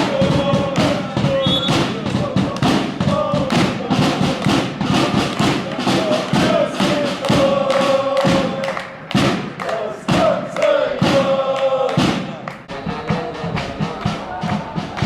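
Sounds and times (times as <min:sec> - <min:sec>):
crowd chanting: 0:00.0 - 0:15.0
drum beating quick rhythm: 0:00.0 - 0:15.0.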